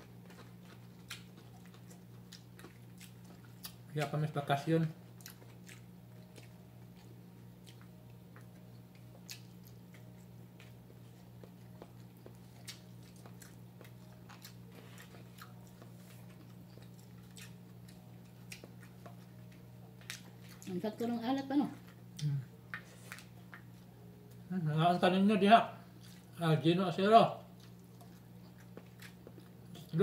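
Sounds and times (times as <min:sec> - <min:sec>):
person chewing: 0:00.0 - 0:03.9, 0:05.0 - 0:20.7, 0:21.8 - 0:24.4, 0:25.9 - 0:26.4, 0:27.5 - 0:30.0
steady low hum: 0:00.0 - 0:30.0.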